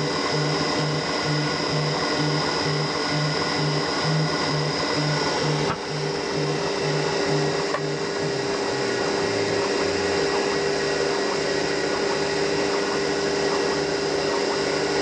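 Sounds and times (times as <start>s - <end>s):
spindle motor whine: 0.0s - 15.0s
stepper motors humming: 0.0s - 15.0s.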